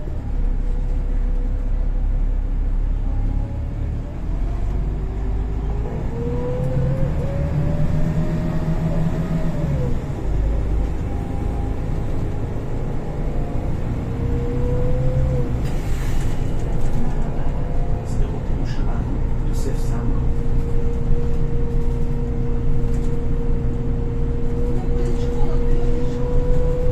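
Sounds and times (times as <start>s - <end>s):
bus engine drone: 0.0s - 26.9s.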